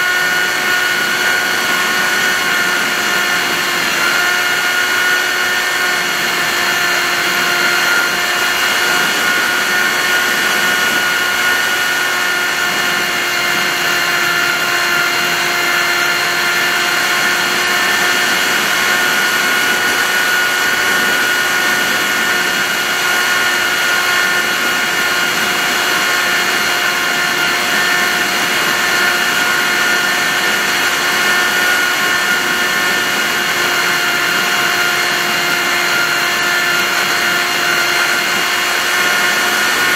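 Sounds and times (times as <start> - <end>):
model aircraft motor whining: 0.0 - 39.9.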